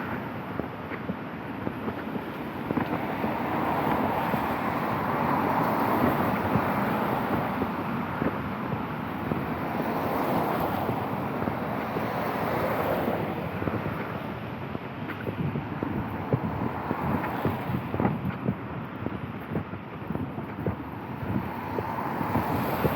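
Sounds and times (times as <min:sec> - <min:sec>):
cars passing with tyre hiss: 0:00.0 - 0:22.9
wind buffeting microphone: 0:00.0 - 0:22.9.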